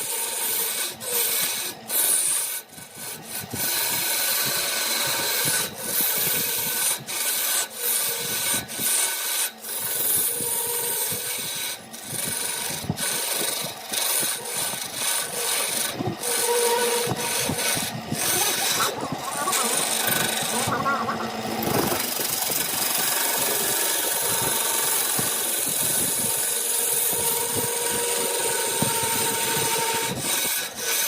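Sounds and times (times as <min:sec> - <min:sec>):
faint motor whine: 0:00.0 - 0:31.0
tool scraping on lathe workpiece: 0:00.0 - 0:31.0.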